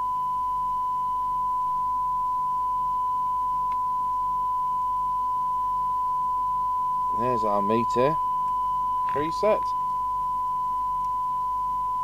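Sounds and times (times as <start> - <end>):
steady test tone: 0.0 - 12.0.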